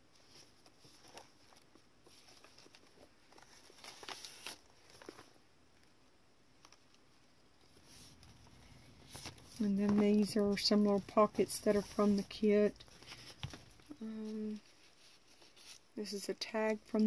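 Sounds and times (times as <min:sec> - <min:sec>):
paper pages rustling: 0:00.1 - 0:05.4, 0:06.6 - 0:17.0.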